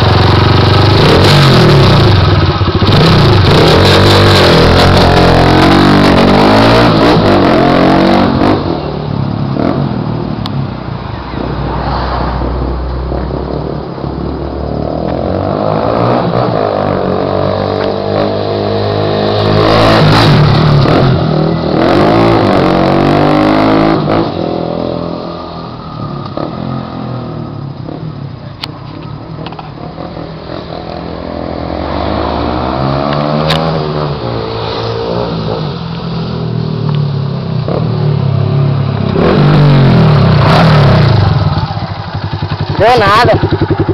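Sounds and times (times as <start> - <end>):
motorcycle engine revving: 0.0 - 10.2, 14.5 - 43.9.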